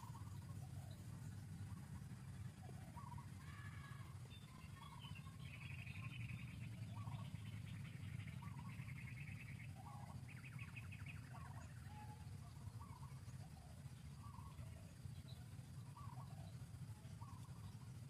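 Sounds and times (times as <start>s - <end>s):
faint birdsong chirps: 0.0s - 18.0s
steady low hum: 0.0s - 18.0s.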